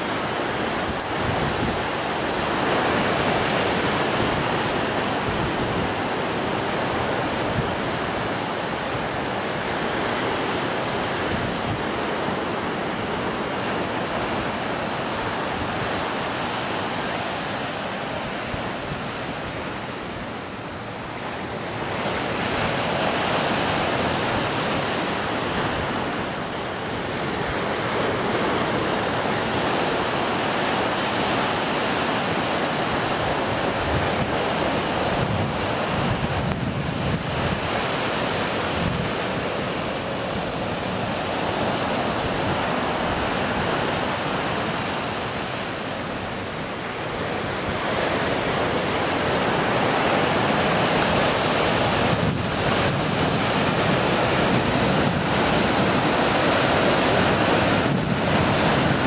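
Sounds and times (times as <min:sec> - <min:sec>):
surf breaking on rocky shore: 0:00.0 - 0:59.0.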